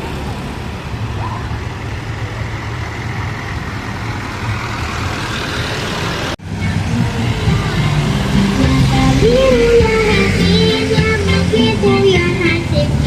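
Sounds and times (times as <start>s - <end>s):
heavy vehicle engine rumble: 0.0s - 13.0s.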